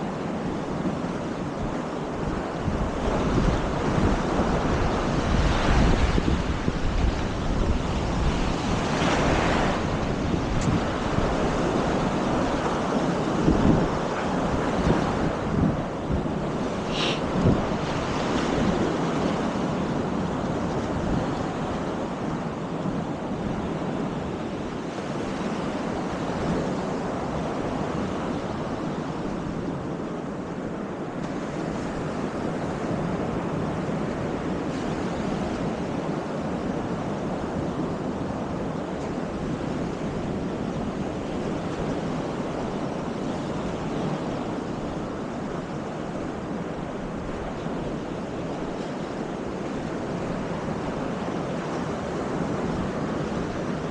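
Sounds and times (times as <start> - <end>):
surf washing onto beach: 0.0 - 53.9
wind rumbling on microphone: 0.0 - 53.9.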